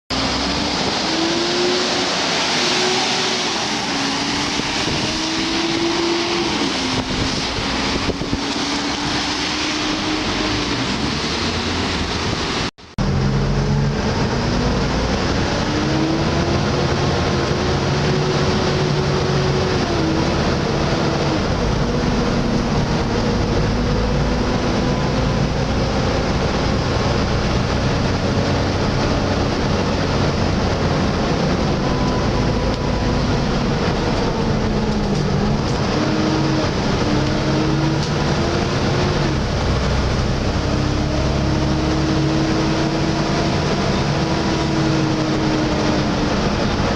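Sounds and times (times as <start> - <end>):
bus diesel engine running hard: 0.1 - 46.9.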